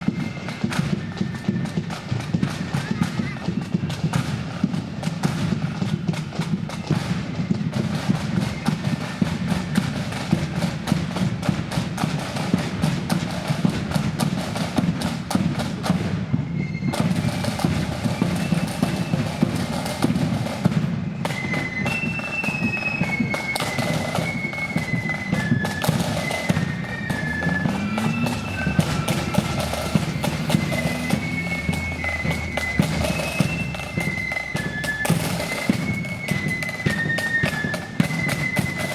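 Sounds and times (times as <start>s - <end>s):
flutes playing high melody: 0.0s - 5.4s, 6.7s - 38.9s
marching drums beating fast: 0.0s - 38.9s.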